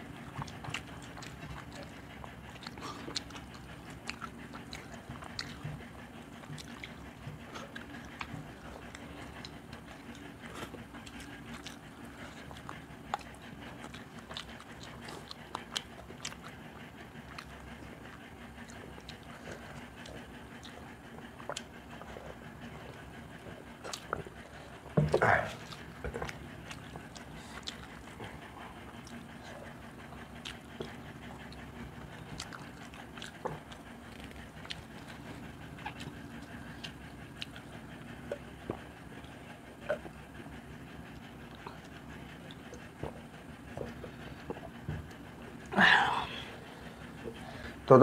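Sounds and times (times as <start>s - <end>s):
chewing and mouth sounds: 0.0s - 47.9s.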